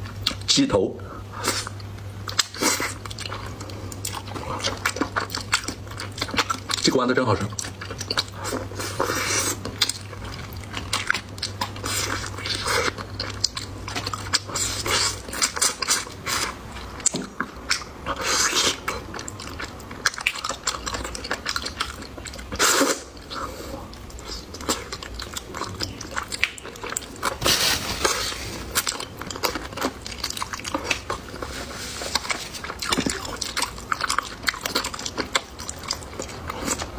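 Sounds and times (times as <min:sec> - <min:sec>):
chewing and biting food: 0:01.4 - 0:36.9.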